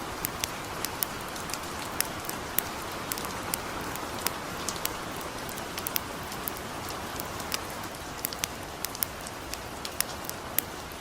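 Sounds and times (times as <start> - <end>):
campfire crackling and popping: 0.0 - 11.0
light rain falling: 0.0 - 11.0.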